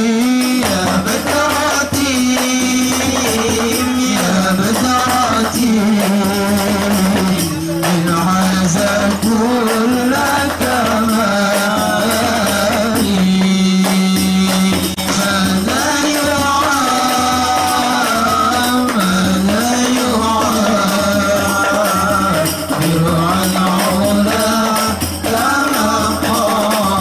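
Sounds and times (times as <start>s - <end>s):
men singing through a pa: 0.0s - 27.0s
hand-struck frame drums: 0.4s - 27.0s.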